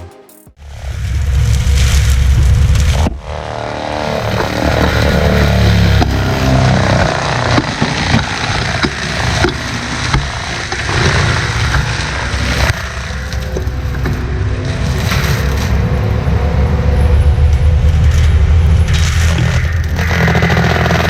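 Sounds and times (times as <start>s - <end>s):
heavy diesel machinery running: 0.6s - 21.0s
wood and brush cracking: 0.9s - 21.0s.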